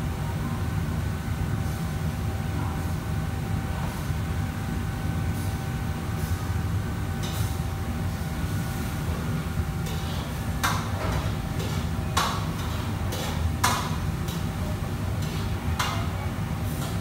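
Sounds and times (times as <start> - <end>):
wok burner rumble: 0.0 - 17.0.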